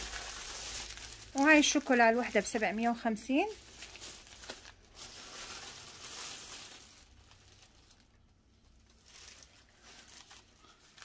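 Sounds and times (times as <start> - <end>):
plastic wrappers rustling: 0.0 - 11.0.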